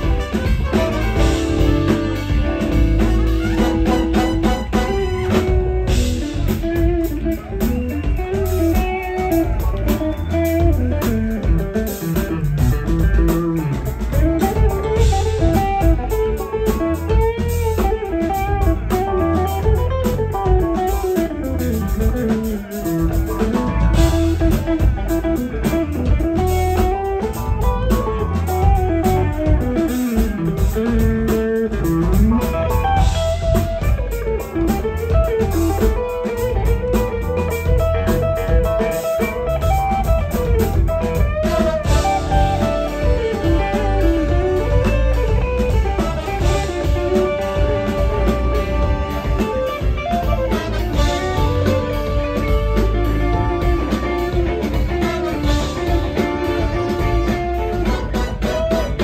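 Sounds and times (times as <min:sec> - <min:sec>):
electric guitar solo: 0:00.0 - 0:59.0
funk band playing: 0:00.0 - 0:59.0.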